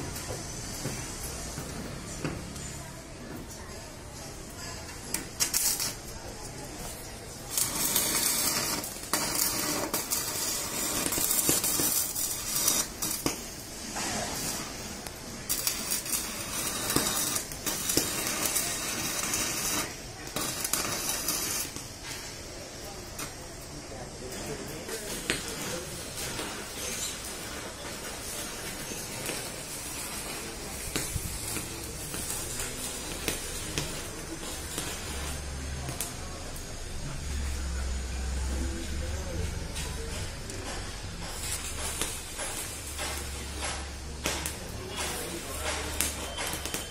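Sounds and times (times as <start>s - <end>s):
welding arc crackling and sizzling: 0.0s - 46.9s
firework hissing: 5.0s - 39.8s, 40.8s - 46.9s.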